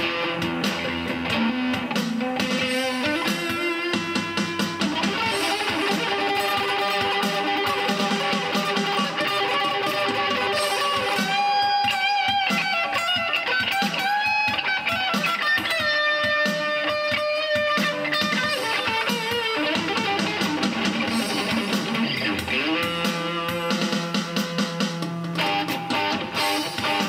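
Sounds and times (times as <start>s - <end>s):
electric guitar shuffle: 0.0s - 27.0s.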